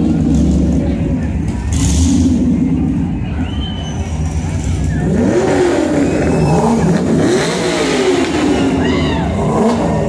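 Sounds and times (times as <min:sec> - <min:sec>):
vehicle engine revving: 0:00.0 - 0:10.0.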